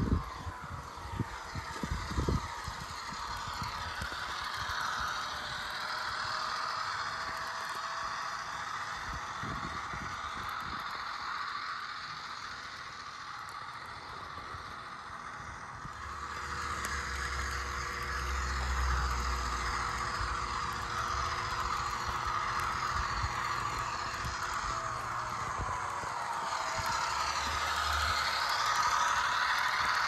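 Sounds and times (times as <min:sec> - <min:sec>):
low rumble: 0:00.0 - 0:30.0
model train motor whine: 0:00.0 - 0:30.0
model train wheels rattling: 0:00.0 - 0:30.0.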